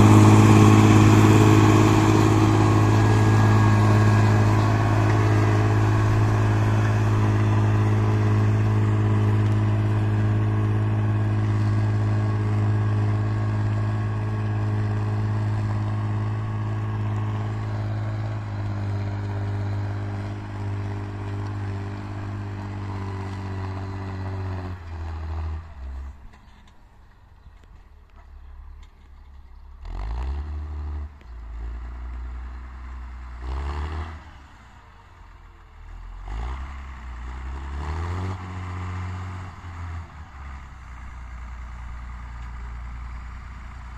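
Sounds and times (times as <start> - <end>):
tractor diesel engine running: 0.0 - 33.4, 34.3 - 43.9.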